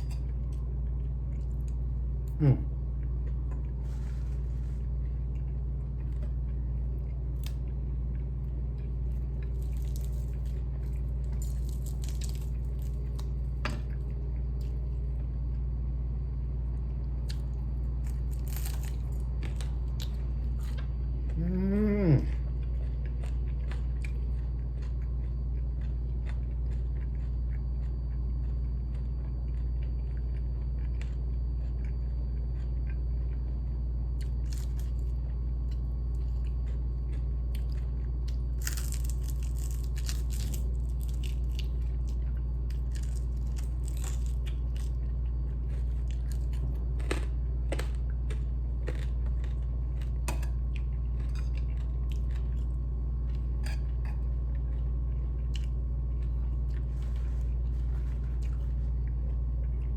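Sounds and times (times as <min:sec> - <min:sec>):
chewing and crunching: 0:00.0 - 0:15.8, 0:16.7 - 0:59.9
steady low hum: 0:00.0 - 0:59.9.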